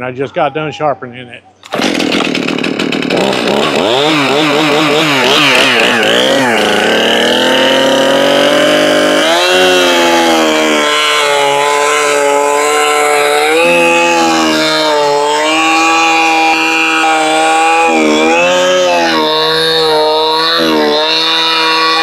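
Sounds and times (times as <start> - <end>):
chainsaw revving and cutting log: 1.6 - 22.0.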